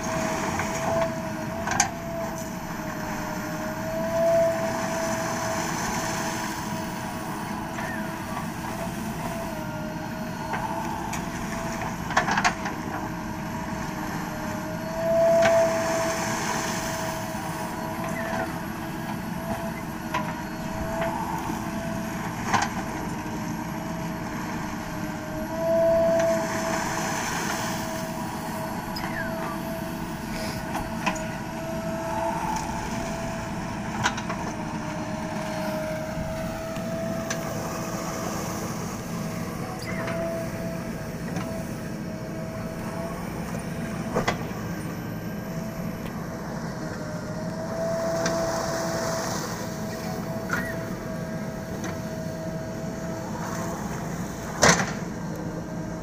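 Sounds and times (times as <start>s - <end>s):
backhoe engine under hydraulic load: 0.0s - 56.0s.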